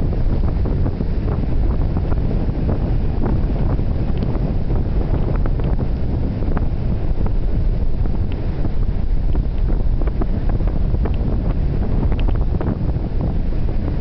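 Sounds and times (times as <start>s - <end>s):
surf breaking on beach: 0.0s - 14.0s
wind buffeting microphone: 0.0s - 14.0s.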